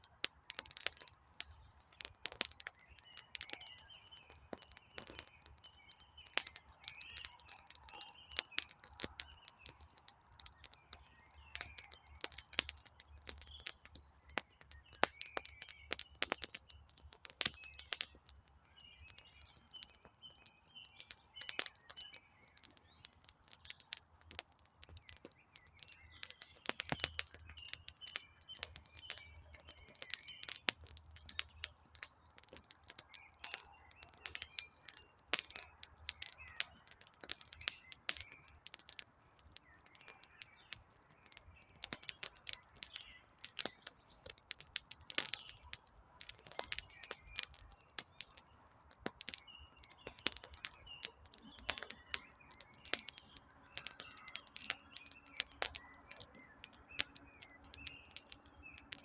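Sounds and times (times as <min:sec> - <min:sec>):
birds chirping: 0:00.0 - 0:59.0
campfire crackling and popping: 0:00.0 - 0:59.0.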